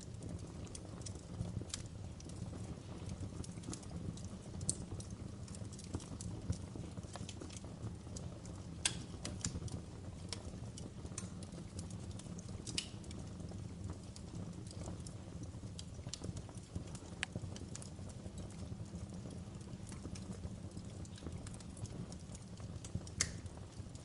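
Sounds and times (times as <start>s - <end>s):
wood fire burning and crackling: 0.0s - 24.0s.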